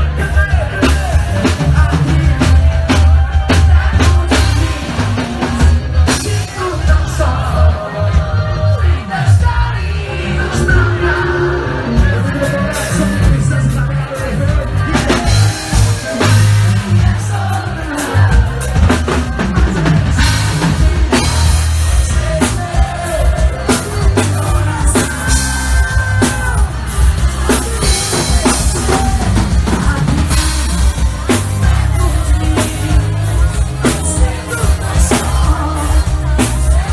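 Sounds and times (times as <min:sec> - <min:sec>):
heavy bass: 0:00.0 - 0:36.9
live band playing loudly: 0:00.0 - 0:36.9.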